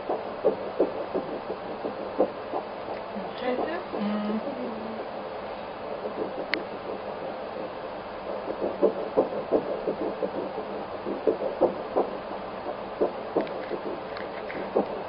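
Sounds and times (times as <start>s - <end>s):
doppler heartbeat whooshing pulses: 0.0s - 15.0s
steady hiss: 0.0s - 15.0s.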